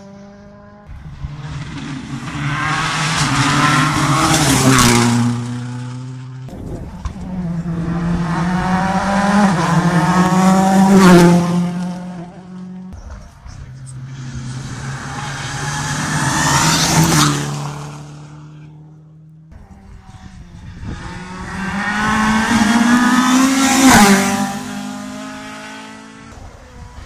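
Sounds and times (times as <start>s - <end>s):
rally cars passing at speed: 0.0s - 27.0s.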